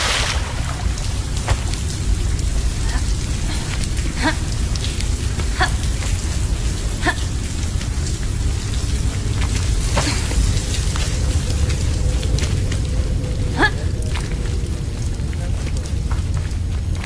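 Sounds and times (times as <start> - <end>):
echoing water drips: 0.0 - 16.6
deep rumble: 0.0 - 17.0.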